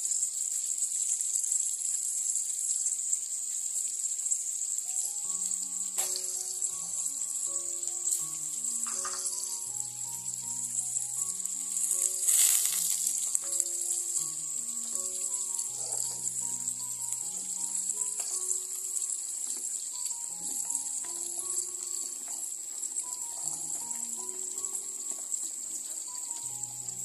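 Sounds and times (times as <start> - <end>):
pot of water boiling: 0.0 - 27.0
soft background music: 4.8 - 27.0.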